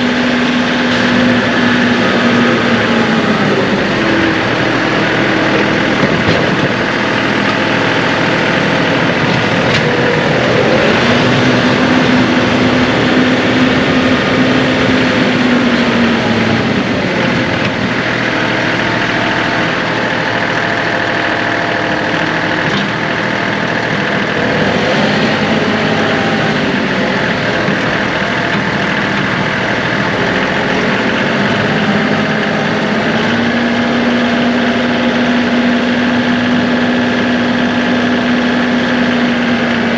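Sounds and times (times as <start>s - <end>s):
tractor diesel engine running: 0.0s - 39.9s
whine shifting in pitch: 0.0s - 39.9s.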